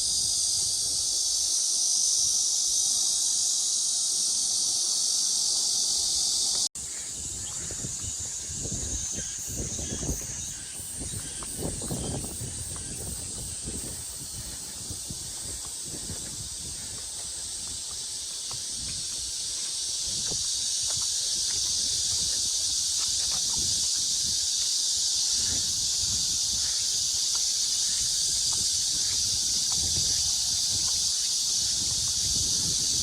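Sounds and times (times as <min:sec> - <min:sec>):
cicadas shrilling: 0:00.0 - 0:33.0.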